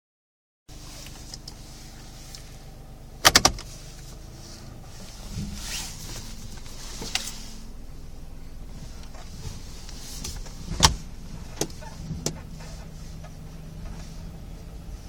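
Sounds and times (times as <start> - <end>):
car running hum: 0.7 - 15.0.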